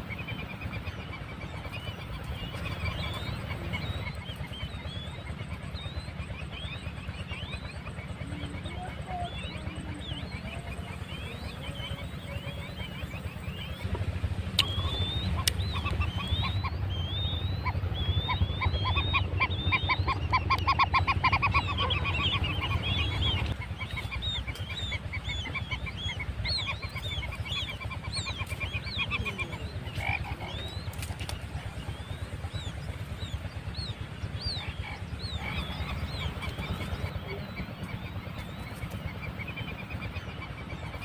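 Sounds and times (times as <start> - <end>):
quail chick peeping: 0.0 - 41.0.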